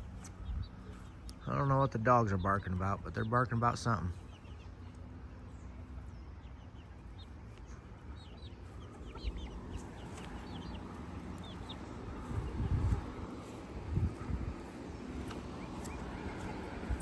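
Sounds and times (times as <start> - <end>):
chickens clucking: 0.0 - 5.2, 5.8 - 17.0.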